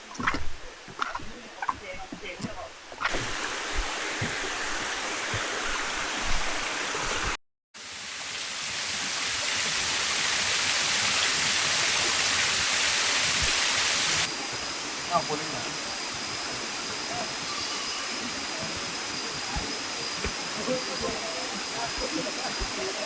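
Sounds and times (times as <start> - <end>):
waterfall rushing: 3.1 - 23.0.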